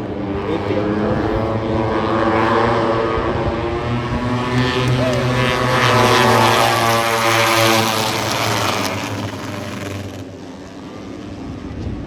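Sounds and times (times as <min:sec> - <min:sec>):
racing motorcycles passing: 0:00.0 - 0:12.0.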